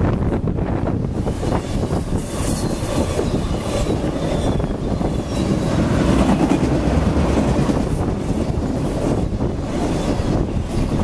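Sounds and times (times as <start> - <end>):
freight train rumbling: 0.0 - 11.0
train wheels clacking: 1.3 - 11.0.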